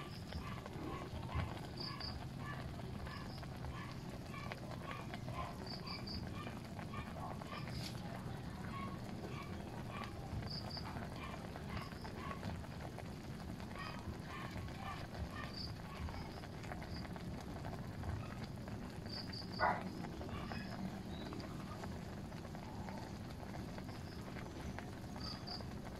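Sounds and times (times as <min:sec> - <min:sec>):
insects and frogs chirping: 0:00.0 - 0:25.9
low background noise: 0:00.0 - 0:25.9.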